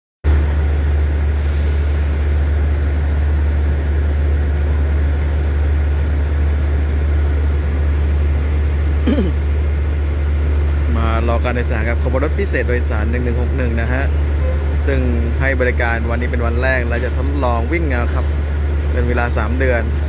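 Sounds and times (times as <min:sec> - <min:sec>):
diesel engine idling drone: 0:00.3 - 0:20.0.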